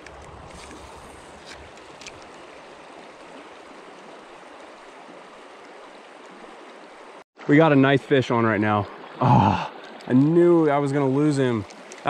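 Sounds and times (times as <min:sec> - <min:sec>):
creek water running over rocks: 0:00.0 - 0:12.0.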